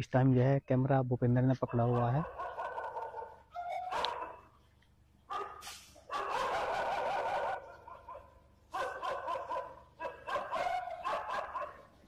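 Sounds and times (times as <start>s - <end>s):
dogs barking: 1.5s - 4.6s, 5.3s - 12.0s.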